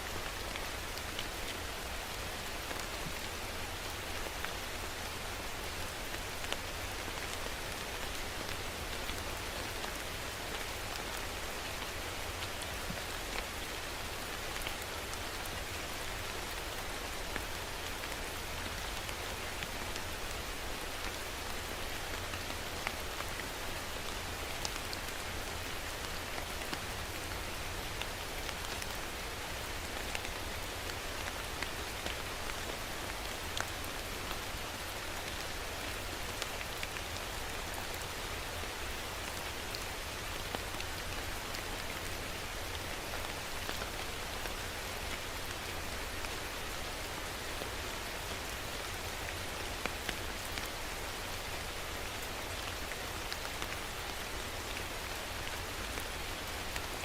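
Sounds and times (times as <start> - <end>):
rain ticking on hard surface: 0.0 - 57.0.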